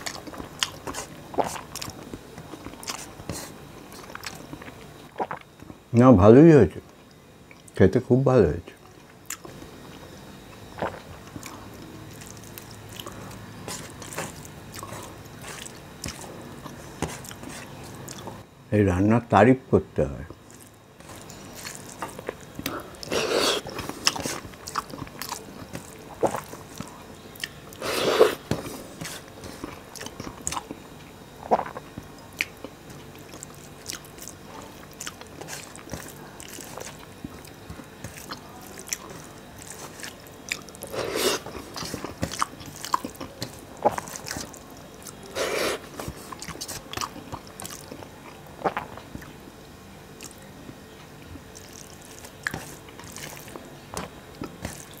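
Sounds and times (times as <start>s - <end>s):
man chewing food: 0.0s - 5.9s, 8.8s - 18.5s, 20.3s - 49.4s, 50.1s - 55.0s.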